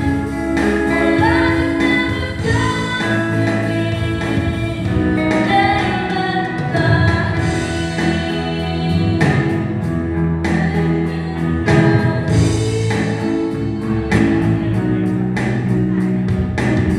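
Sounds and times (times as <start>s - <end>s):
instrumental accompaniment: 0.0s - 16.9s.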